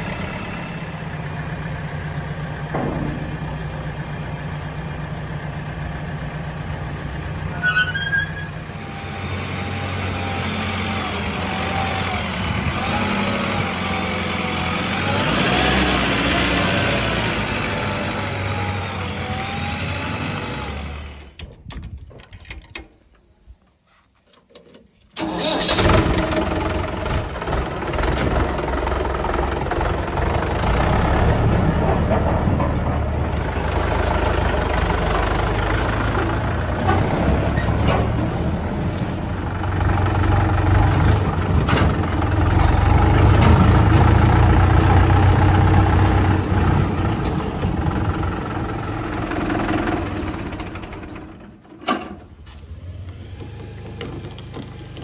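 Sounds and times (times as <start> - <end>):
diesel engine running: 0.0 - 21.4, 25.2 - 55.0
tractor diesel engine: 0.0 - 21.5, 24.2 - 55.0.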